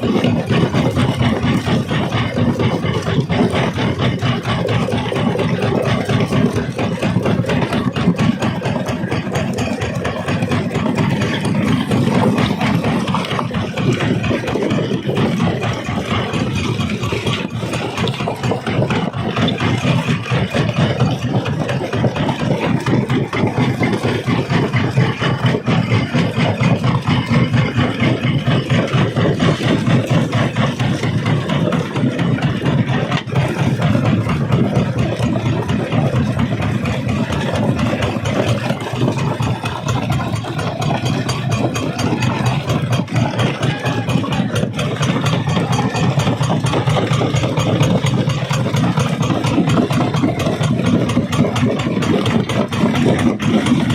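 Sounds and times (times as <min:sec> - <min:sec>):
rock crusher running: 0:00.0 - 0:53.9.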